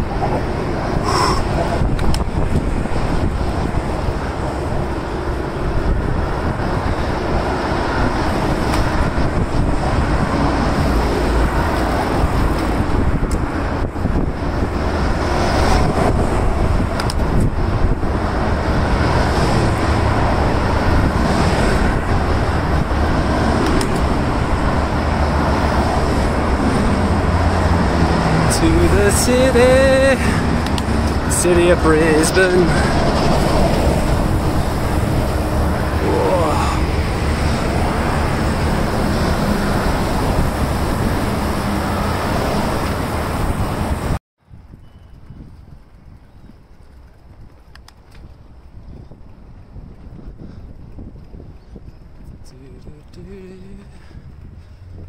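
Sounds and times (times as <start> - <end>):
road traffic noise: 0.0 - 55.0
wind rushing over microphone: 0.0 - 55.0.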